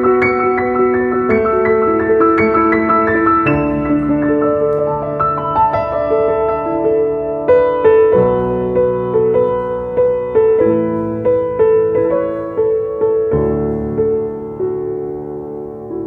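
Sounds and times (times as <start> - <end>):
low piano bass notes: 0.0 - 16.0
piano notes: 0.0 - 16.0.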